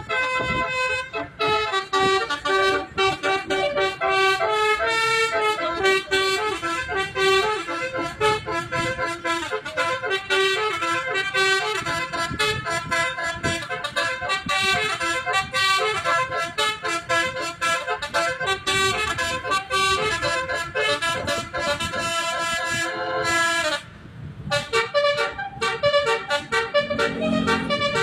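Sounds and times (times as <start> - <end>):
musical bus horn tune: 0.0 - 28.0.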